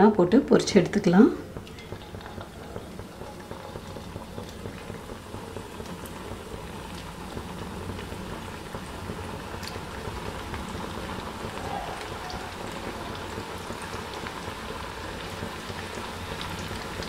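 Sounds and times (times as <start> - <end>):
dough deep-frying in sizzling oil: 0.0 - 17.0.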